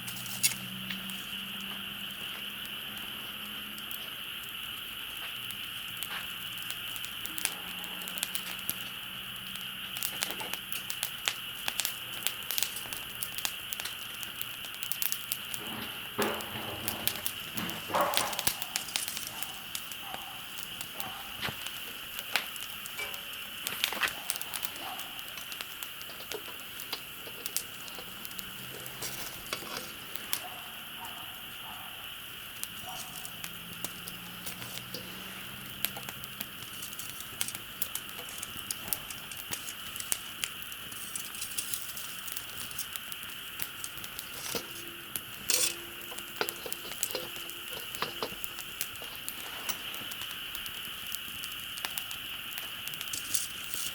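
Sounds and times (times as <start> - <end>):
campfire crackling and popping: 0.0 - 53.9
steady high hiss: 0.0 - 53.9.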